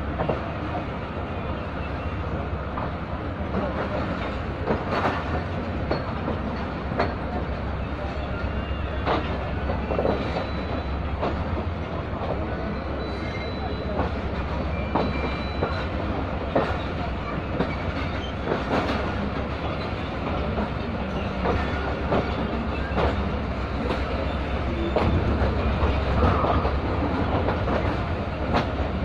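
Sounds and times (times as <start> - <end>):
train coaches rumbling: 0.0 - 29.0
wheel clacks at rail joints: 2.7 - 29.0.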